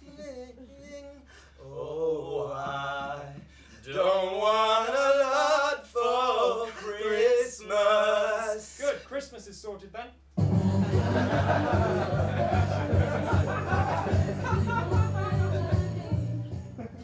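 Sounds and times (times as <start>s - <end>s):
men singing a cappella: 0.0s - 8.9s, 10.5s - 17.0s.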